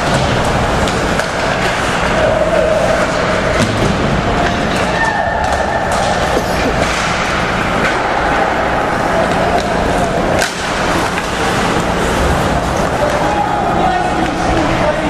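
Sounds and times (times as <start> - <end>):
hockey sticks clicking on puck: 0.0 - 13.5
arena crowd noise: 0.0 - 15.0.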